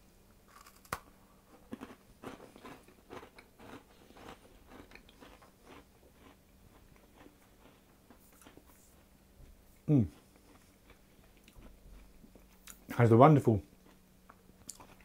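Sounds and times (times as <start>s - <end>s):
person crunching a biscuit: 0.5s - 9.2s, 9.8s - 12.9s, 14.6s - 15.0s.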